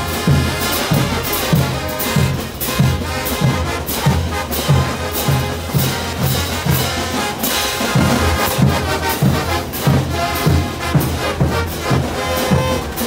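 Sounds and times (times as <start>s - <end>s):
marching brass band playing: 0.0s - 13.0s.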